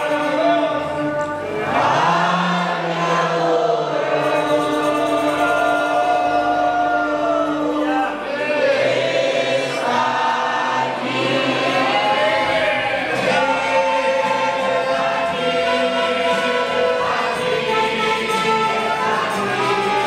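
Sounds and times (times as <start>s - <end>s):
acoustic guitars: 0.0s - 20.0s
choir singing a hymn: 0.0s - 20.0s.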